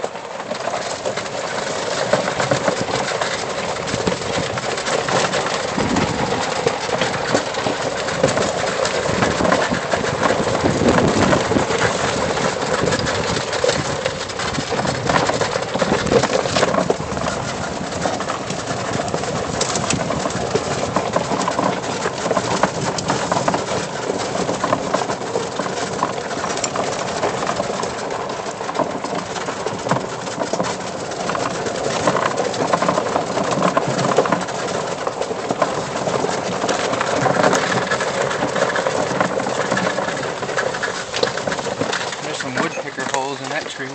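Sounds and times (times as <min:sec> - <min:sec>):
golf cart driving on dirt trail: 0:00.0 - 0:43.9.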